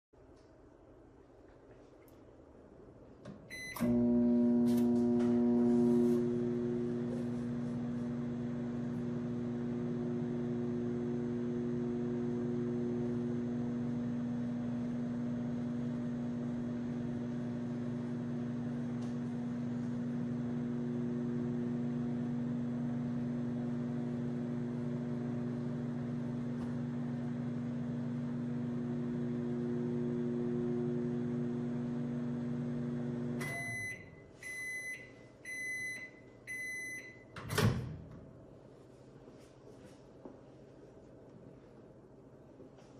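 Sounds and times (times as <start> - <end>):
microwave oven humming: 3.5 - 38.4.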